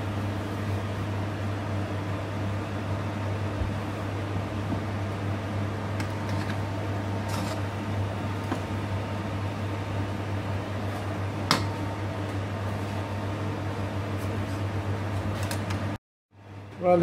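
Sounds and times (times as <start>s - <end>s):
low fan hum: 0.0s - 17.0s.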